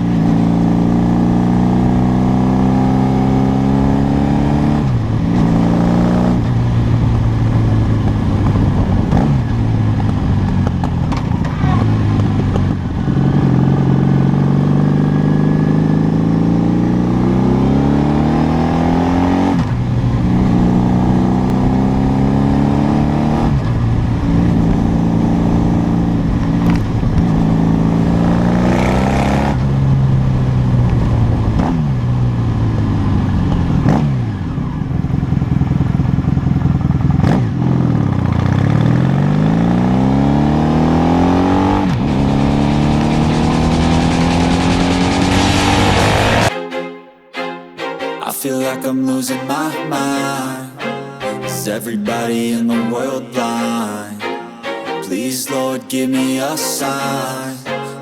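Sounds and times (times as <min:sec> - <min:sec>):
vehicle engine accelerating: 0:00.0 - 0:46.5.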